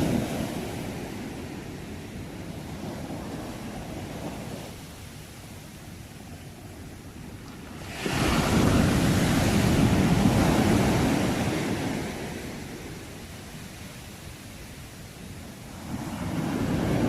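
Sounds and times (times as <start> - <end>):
ocean wave breaking on shore: 0.0 - 17.0.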